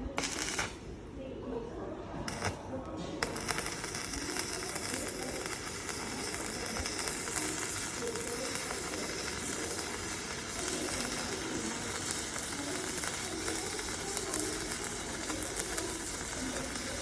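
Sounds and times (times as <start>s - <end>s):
welding arc sizzling and crackling: 0.0s - 1.0s, 2.3s - 17.0s.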